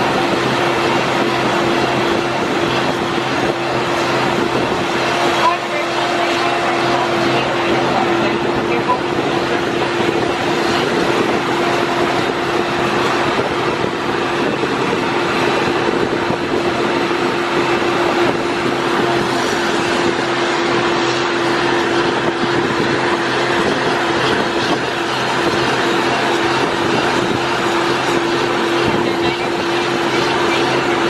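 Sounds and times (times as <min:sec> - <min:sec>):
constant hum: 0:00.0 - 0:31.0
passenger train running: 0:00.0 - 0:31.0.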